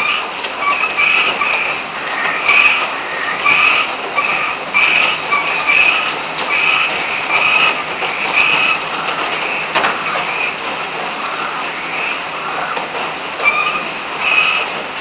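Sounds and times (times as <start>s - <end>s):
frogs calling: 0.0s - 14.8s
rain falling: 0.0s - 15.0s.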